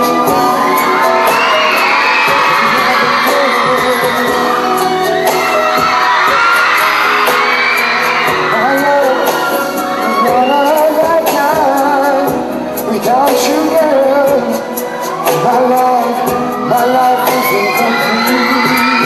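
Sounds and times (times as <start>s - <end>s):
man singing pop song: 0.0s - 19.0s
pop backing track: 0.0s - 19.0s.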